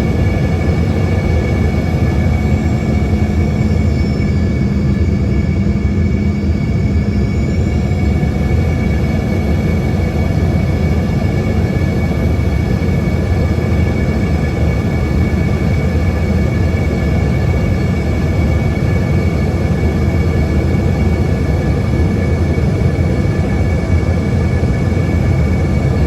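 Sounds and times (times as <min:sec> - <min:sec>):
jet engine cabin roar: 0:00.0 - 0:26.0
whining engine tones: 0:00.0 - 0:26.0.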